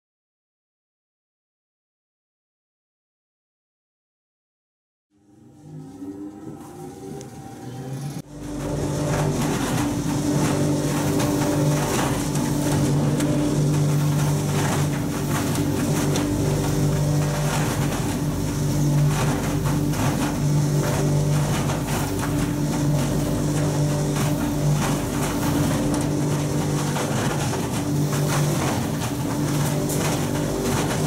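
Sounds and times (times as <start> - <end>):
insulation blowing machine humming: 5.1 - 31.0.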